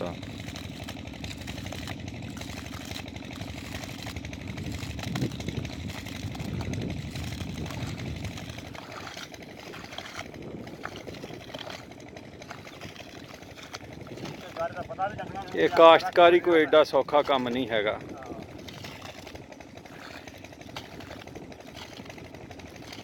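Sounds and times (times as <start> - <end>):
small engine running: 0.0 - 23.0
water flowing and splashing: 0.0 - 23.0.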